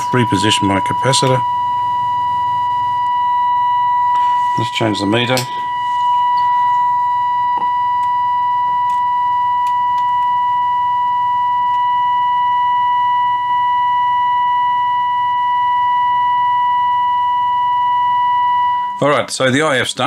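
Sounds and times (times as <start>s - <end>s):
high-pitched test tone from radio: 0.0s - 19.2s.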